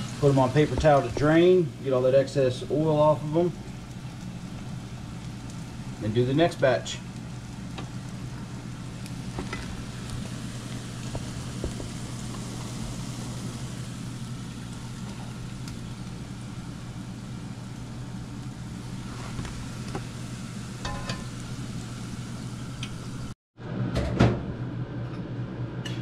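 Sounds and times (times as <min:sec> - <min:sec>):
oil sizzling while deep-frying: 0:00.0 - 0:23.4.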